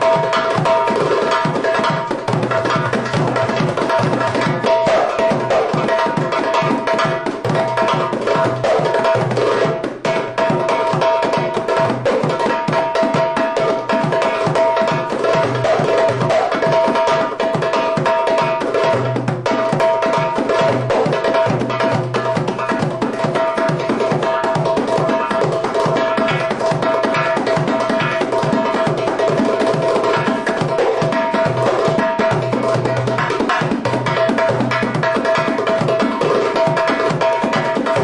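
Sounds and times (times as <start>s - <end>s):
goblet drum played by hand: 0.0s - 38.0s.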